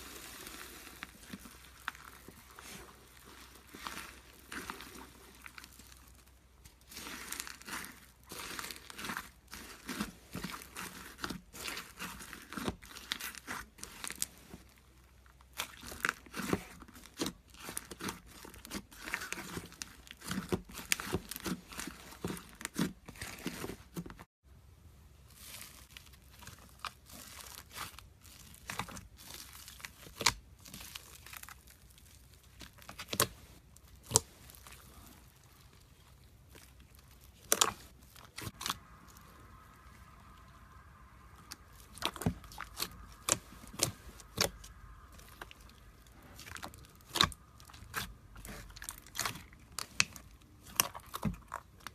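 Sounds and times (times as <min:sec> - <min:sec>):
slime crackling and popping: 0:00.0 - 0:24.0, 0:25.3 - 0:51.9.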